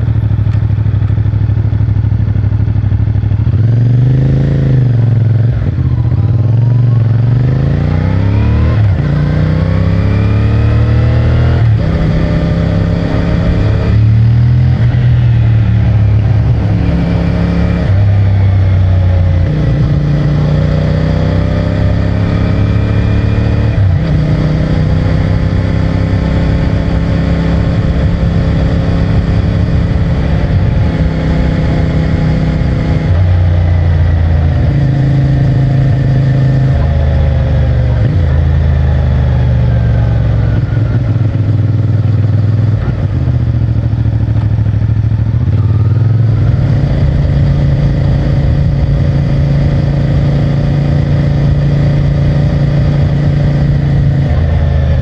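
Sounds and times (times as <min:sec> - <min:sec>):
motorcycle engine through gears: 0:00.0 - 0:55.0.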